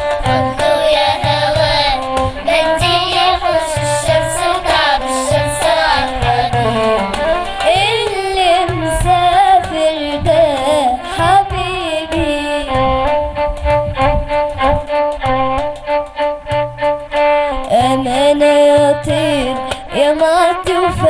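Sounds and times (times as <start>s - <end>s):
low rhythmic accompaniment: 0.0s - 21.0s
violin melody: 0.0s - 21.0s.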